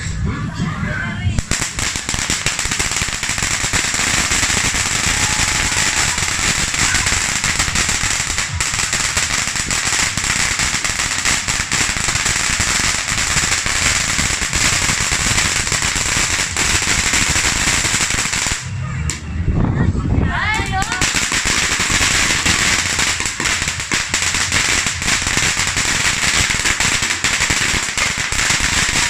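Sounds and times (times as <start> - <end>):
firework fountain hissing and crackling: 1.3 - 19.2, 20.5 - 29.0.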